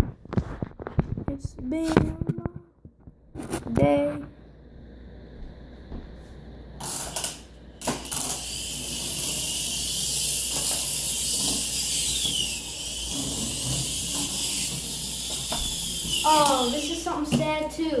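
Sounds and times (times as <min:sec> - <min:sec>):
refrigerator hiss and whirring: 0:00.0 - 0:18.0.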